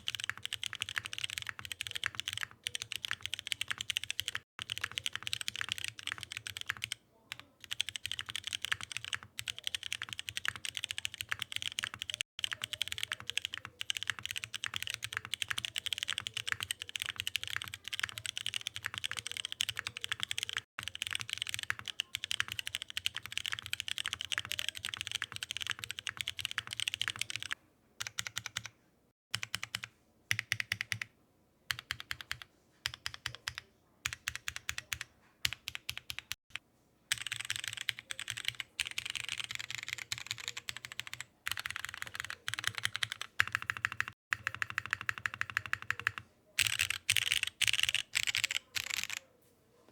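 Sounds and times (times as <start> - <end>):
mechanical keyboard typing: 0.0 - 28.7, 29.3 - 31.1, 31.7 - 36.4, 37.1 - 49.3.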